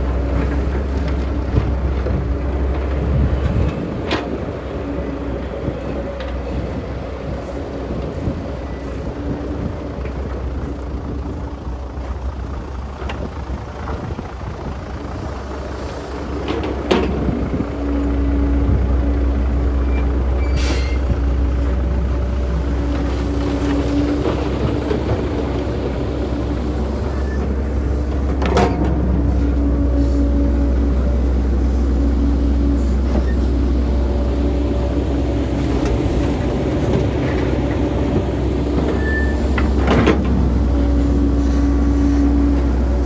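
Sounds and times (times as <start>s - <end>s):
diesel machinery engine running: 0.0s - 43.0s.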